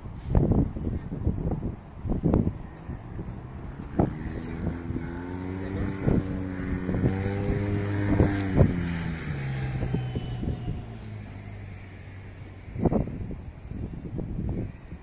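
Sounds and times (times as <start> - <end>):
passing vehicle engine hum: 0.0 - 15.0.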